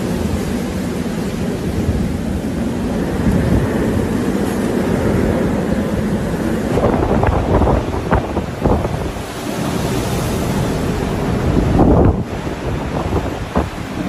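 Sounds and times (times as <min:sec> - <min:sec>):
driving rain: 0:00.0 - 0:14.0
strong wind: 0:00.0 - 0:14.0
wind buffeting microphone: 0:00.0 - 0:14.0.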